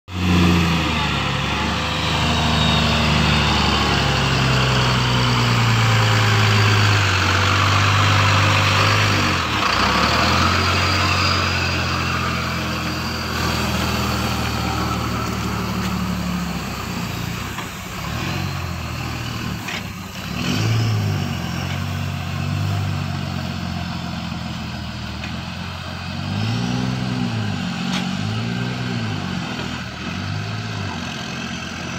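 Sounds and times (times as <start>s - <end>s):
truck diesel engine idling: 0.2s - 26.2s.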